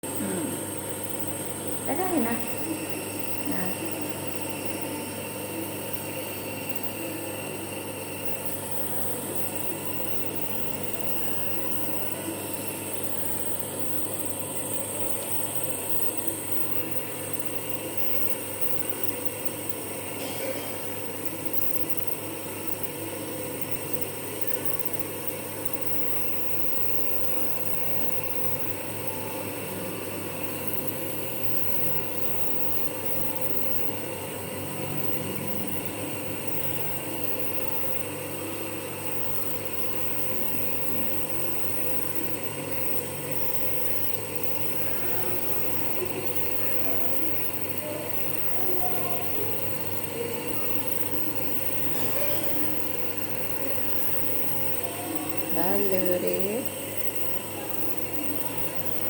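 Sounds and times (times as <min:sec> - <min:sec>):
nebulizer motor hum: 0:00.0 - 0:59.0.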